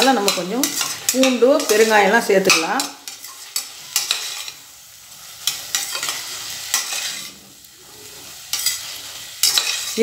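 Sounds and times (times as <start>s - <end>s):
light sizzle: 0.0s - 10.0s
metal ladle scraping a pot: 0.3s - 4.6s, 5.5s - 10.0s.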